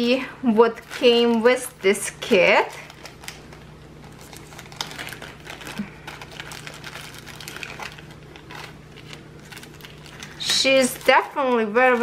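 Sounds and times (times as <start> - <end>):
plastic bags crinkling: 0.6 - 12.0.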